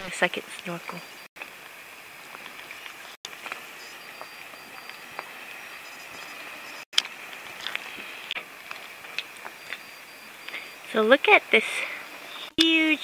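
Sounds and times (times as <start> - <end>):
steady hiss: 0.1 - 13.0.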